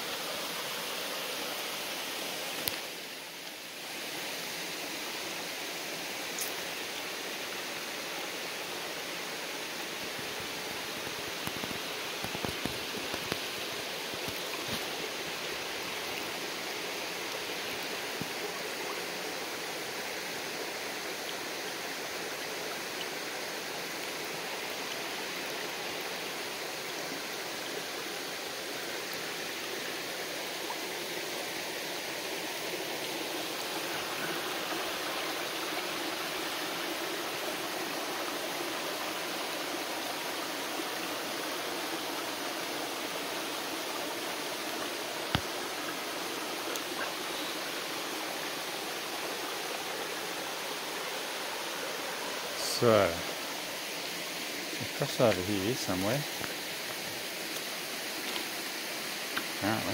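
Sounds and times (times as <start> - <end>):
creek babbling over rocks: 0.0 - 59.9.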